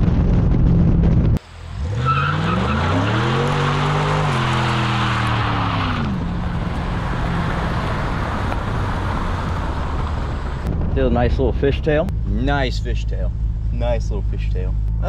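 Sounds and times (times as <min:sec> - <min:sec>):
car engine revving: 0:01.1 - 0:15.0.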